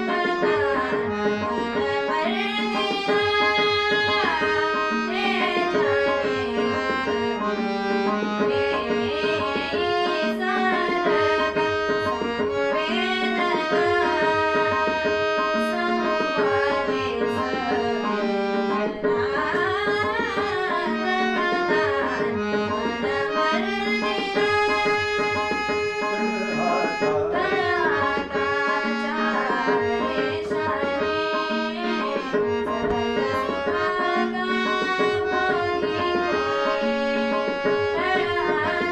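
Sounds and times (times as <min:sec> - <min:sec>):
woman singing: 0:00.0 - 0:07.6, 0:08.4 - 0:26.1, 0:27.3 - 0:38.9
harmonium: 0:00.0 - 0:38.9
tabla drumming: 0:00.0 - 0:38.9.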